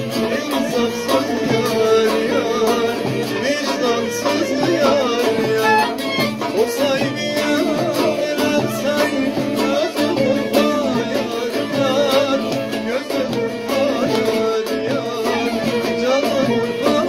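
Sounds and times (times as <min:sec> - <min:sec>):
long-necked lute picked fast: 0:00.0 - 0:17.0
man singing folk melody: 0:00.0 - 0:17.0.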